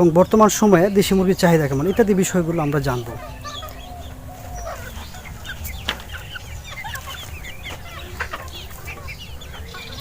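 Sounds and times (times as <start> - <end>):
chickens clucking and calling: 0.0 - 10.0.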